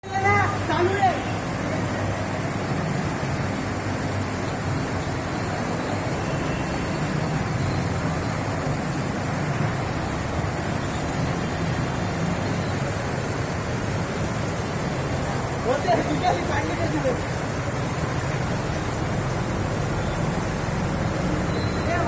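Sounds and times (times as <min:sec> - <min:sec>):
rushing outdoor noise: 0:00.0 - 0:22.0.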